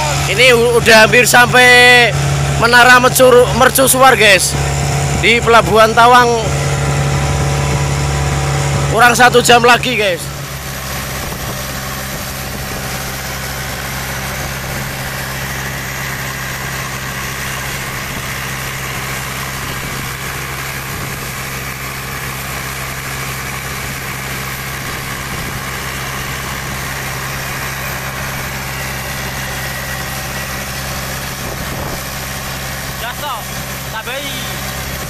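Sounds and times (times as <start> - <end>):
diesel boat engine droning: 0.0 - 35.0
water rushing along hull: 0.0 - 35.0.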